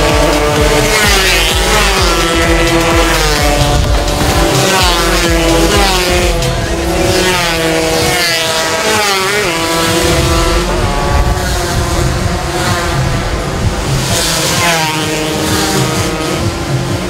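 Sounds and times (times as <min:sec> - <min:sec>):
racing motorcycle engines: 0:00.0 - 0:17.0.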